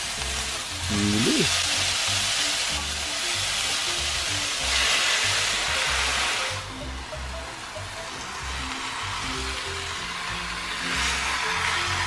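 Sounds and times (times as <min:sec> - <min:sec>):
background music with beat: 0:00.0 - 0:12.0
food sizzling in a wok: 0:00.0 - 0:12.0.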